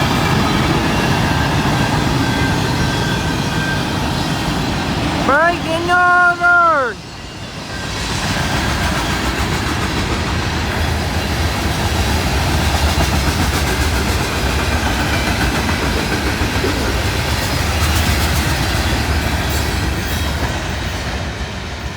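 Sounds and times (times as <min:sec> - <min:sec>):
train wheels rumbling on rails: 0:00.0 - 0:21.9.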